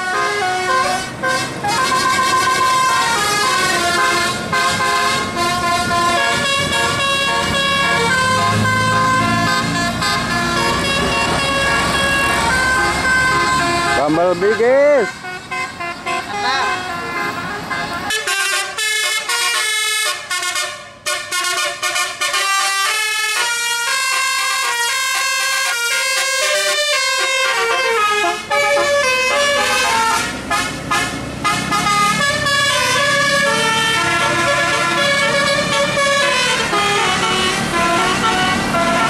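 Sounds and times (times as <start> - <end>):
bus engine and road noise: 0.0 - 39.0
musical air horns playing tune: 0.0 - 39.0.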